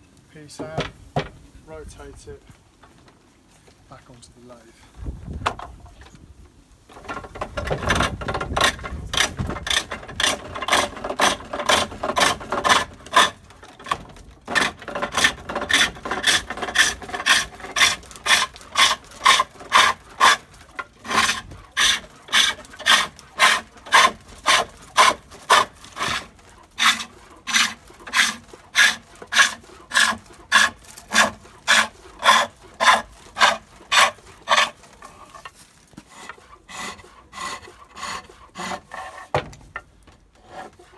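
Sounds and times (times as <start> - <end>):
turning tool cutting wood: 6.9 - 39.5, 40.3 - 40.9.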